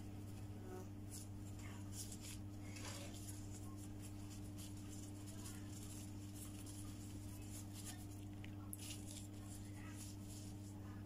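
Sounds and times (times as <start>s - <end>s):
low electrical hum: 0.0s - 11.0s
rustling of wrapper and gloves: 0.2s - 11.0s.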